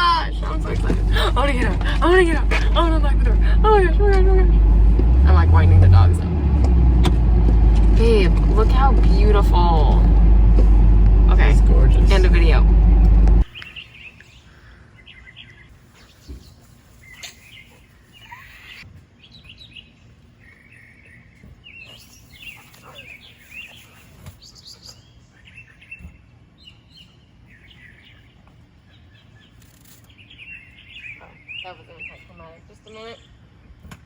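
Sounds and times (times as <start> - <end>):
birds chirping: 0.0 - 33.8.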